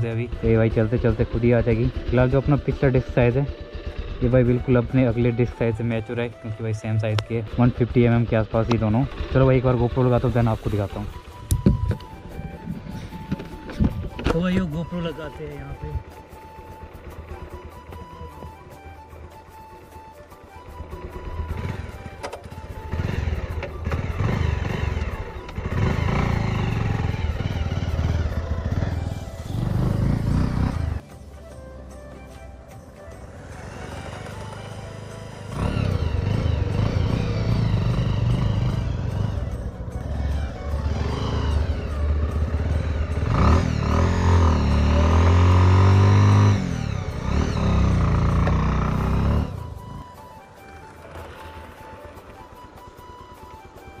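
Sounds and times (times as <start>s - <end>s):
motorcycle engine revving: 0.0s - 18.6s, 20.6s - 31.0s, 33.2s - 52.8s.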